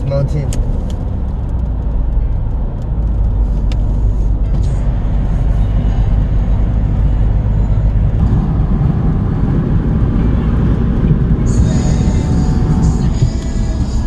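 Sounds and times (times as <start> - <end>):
road and engine rumble in car: 0.0 - 14.0.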